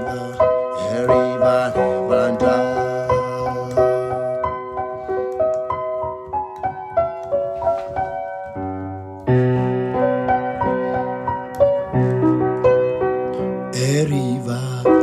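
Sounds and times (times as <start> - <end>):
piano-toned keyboard melody: 0.0 - 15.0.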